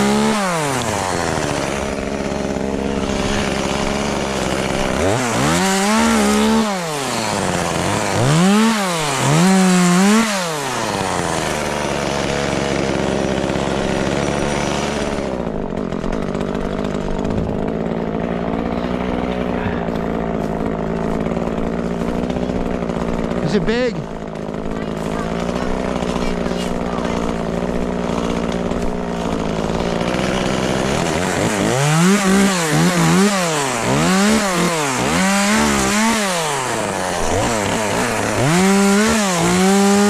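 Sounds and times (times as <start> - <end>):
chainsaw engine idling and revving: 0.0 - 40.0.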